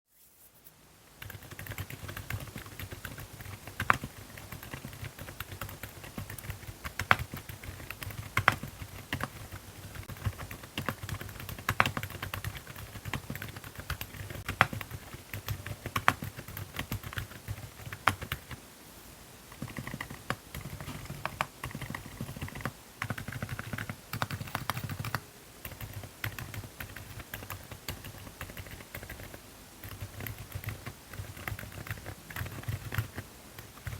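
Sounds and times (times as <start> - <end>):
fast typing on mechanical keyboard: 1.2 - 18.6, 19.5 - 33.9.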